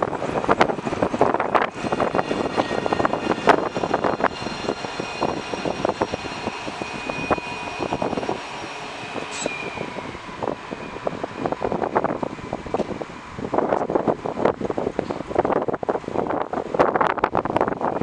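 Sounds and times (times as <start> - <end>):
tram motor whine: 0.0 - 18.0
wheels rumbling on rails: 0.0 - 18.0.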